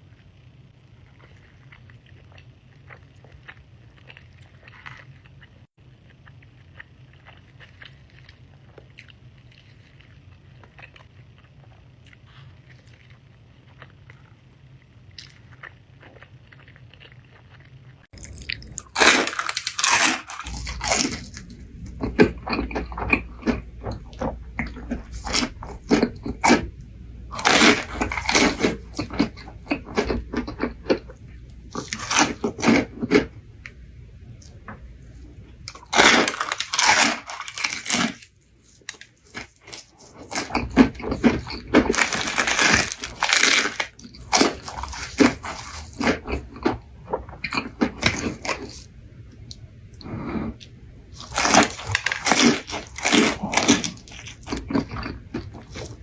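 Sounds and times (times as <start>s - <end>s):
crunchy chewing of crisp food: 0.0s - 33.4s, 35.2s - 56.0s.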